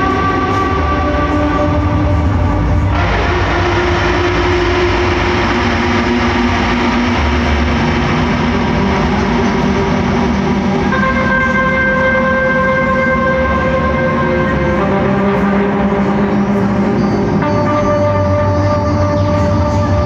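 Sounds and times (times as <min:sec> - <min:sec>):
electric guitar noise drone: 0:00.0 - 0:20.0.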